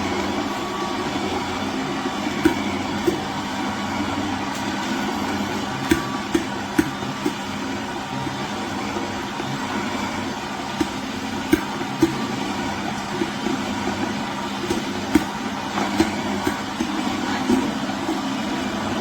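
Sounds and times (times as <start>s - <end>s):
juicer motor running: 0.0s - 19.0s.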